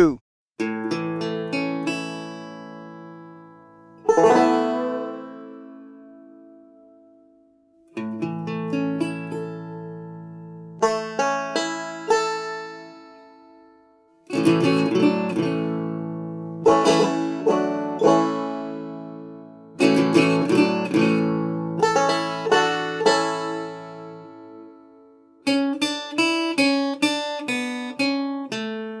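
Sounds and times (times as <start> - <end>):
acoustic guitar music: 0.6 - 29.0.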